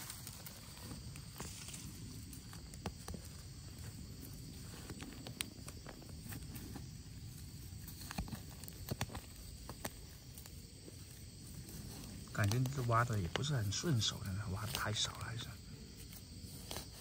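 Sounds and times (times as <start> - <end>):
dry leaves and twigs crackling: 0.0 - 17.0
fingers digging in dry soil: 0.0 - 17.0.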